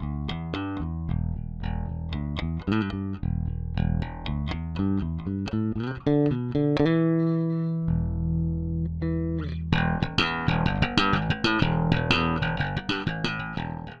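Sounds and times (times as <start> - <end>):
electric bass guitar plucked notes: 0.0 - 14.0.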